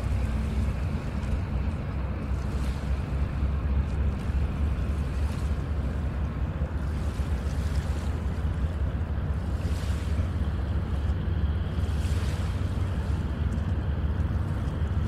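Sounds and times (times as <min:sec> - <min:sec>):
waves washing on lake: 0:00.0 - 0:15.0.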